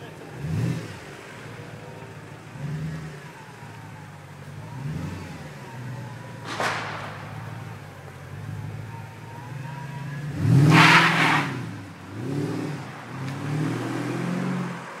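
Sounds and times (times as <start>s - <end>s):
car accelerating away: 0.0s - 15.0s.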